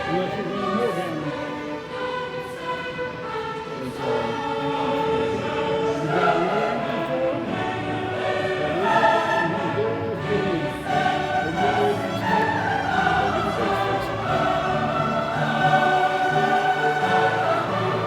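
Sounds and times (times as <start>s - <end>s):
choir singing long notes: 0.0s - 18.0s
orchestra: 0.0s - 18.0s.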